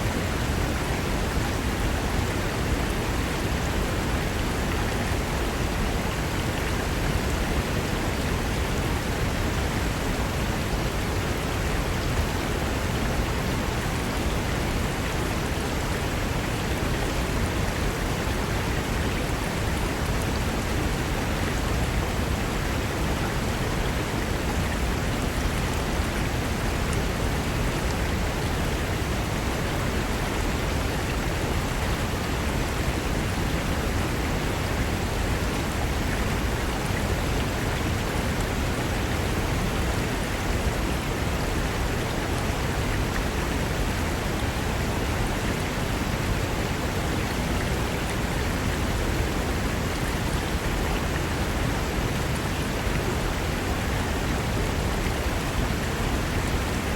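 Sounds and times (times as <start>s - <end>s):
river rushing over rocks: 0.0s - 56.9s.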